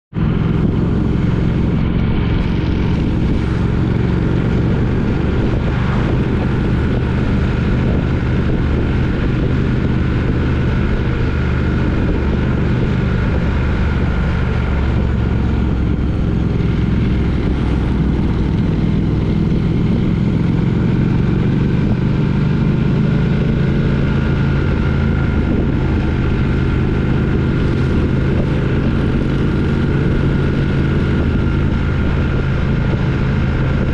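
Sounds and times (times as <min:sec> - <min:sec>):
motorcycle engine running: 0:00.1 - 0:33.9
wind rush: 0:00.1 - 0:33.9.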